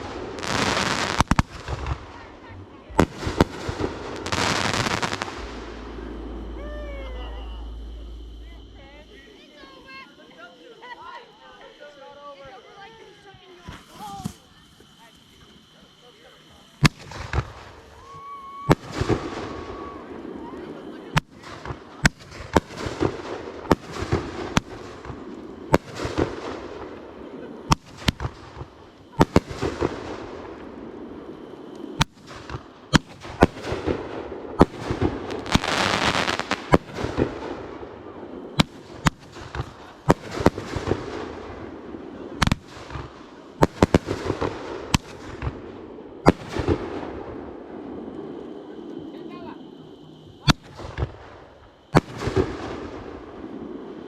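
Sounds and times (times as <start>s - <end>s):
fireworks banging and crackling: 0.0s - 9.1s, 16.8s - 54.0s.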